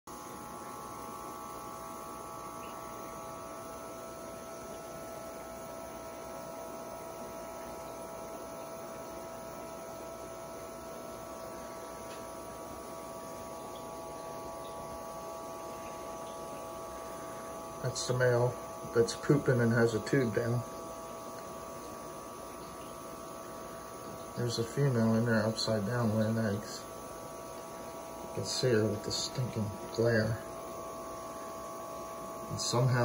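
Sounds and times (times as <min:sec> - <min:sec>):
steady electrical hum: 0:00.1 - 0:33.0.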